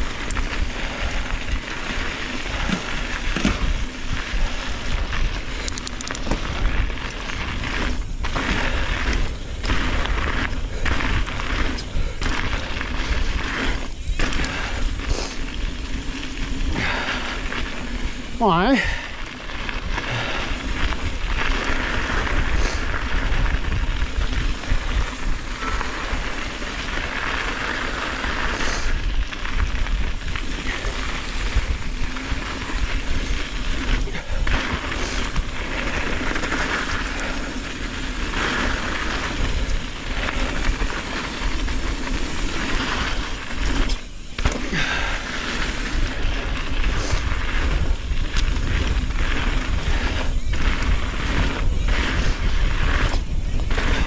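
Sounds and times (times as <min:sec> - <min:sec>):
bike rattling over bumps: 0:00.0 - 0:54.0
bike tyres on gravel trail: 0:00.0 - 0:54.0
wind rumbling on microphone: 0:00.0 - 0:54.0.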